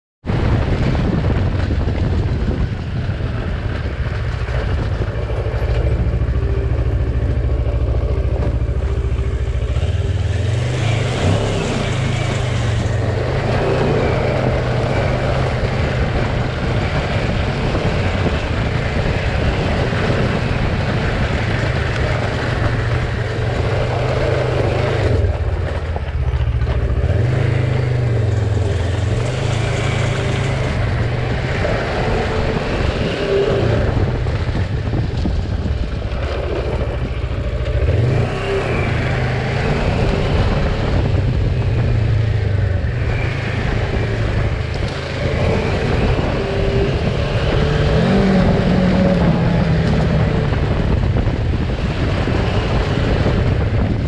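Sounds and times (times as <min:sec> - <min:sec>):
motorcycle engine under load: 0:00.2 - 0:54.0
steady rushing noise: 0:00.2 - 0:54.0.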